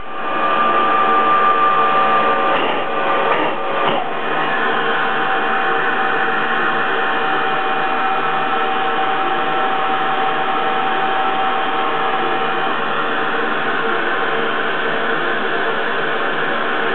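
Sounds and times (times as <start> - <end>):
machine whirring: 0.0 - 16.9.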